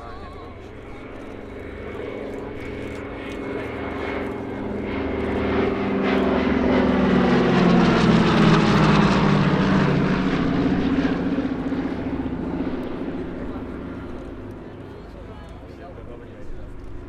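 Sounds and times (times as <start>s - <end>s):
propeller aircraft passing overhead: 0.0s - 17.0s.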